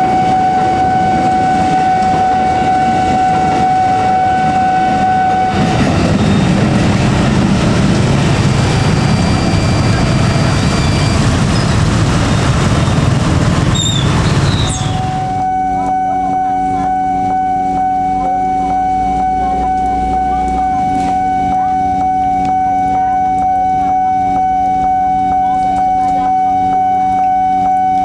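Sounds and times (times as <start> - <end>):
high warning tone: 0.0 - 28.0
train rumbling: 0.0 - 28.0.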